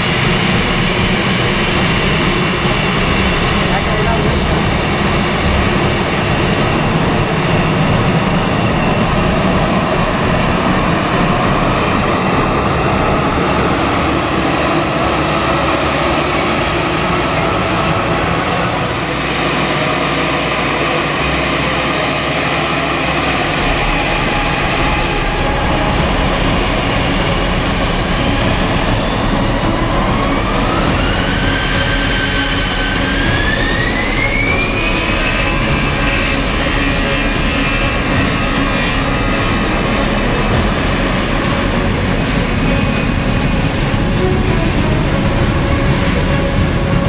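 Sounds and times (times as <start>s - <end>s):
jet engines at taxi power: 0.0s - 47.0s.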